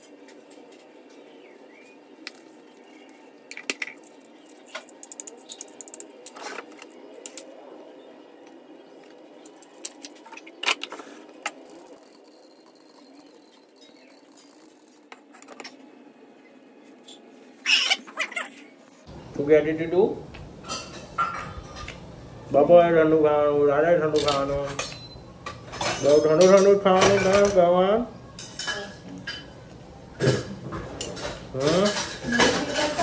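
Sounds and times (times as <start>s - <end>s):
steady background noise: 0.0s - 33.0s.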